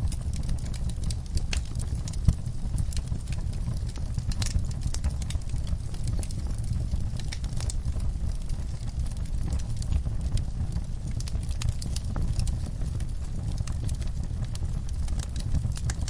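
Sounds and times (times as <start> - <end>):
fire crackling and popping: 0.0 - 16.0
low rumble of flame: 0.0 - 16.0.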